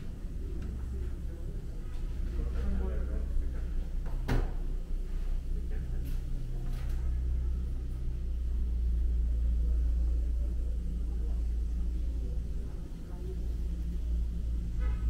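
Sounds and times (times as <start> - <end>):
faint hum: 0.0 - 15.0
low engine rumble: 0.0 - 15.0.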